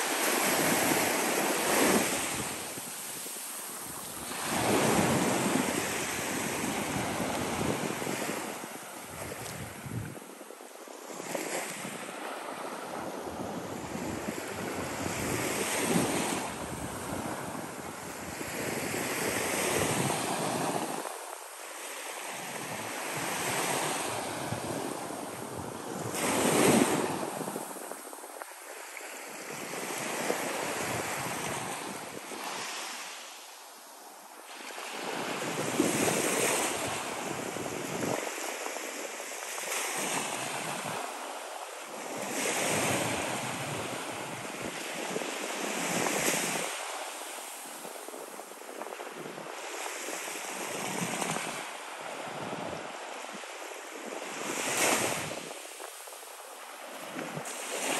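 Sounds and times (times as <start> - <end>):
waves washing up a beach: 0.0 - 57.9.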